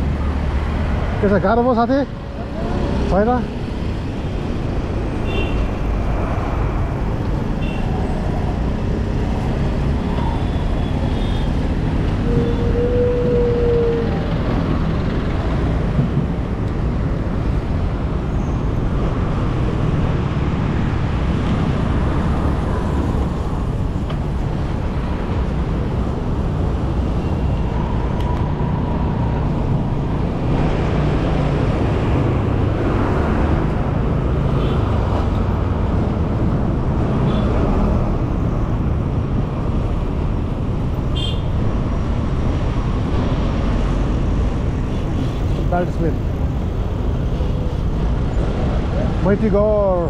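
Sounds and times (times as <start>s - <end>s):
road traffic passing close: 0.0s - 50.0s.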